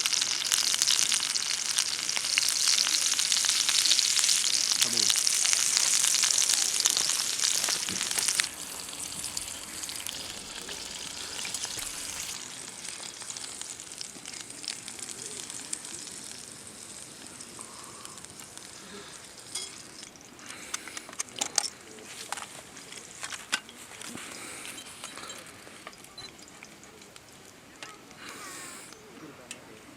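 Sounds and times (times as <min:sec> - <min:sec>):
food sizzling in a pan: 0:00.0 - 0:21.0, 0:21.8 - 0:29.1
crackles and clicks: 0:00.0 - 0:29.6.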